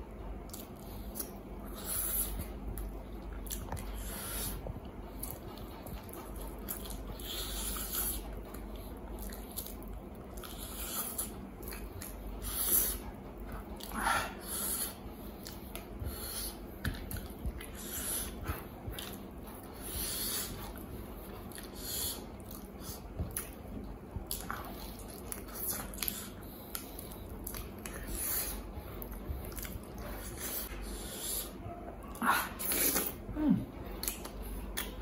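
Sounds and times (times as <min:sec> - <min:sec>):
wet chewing and smacking: 0:00.3 - 0:31.2, 0:32.5 - 0:35.0.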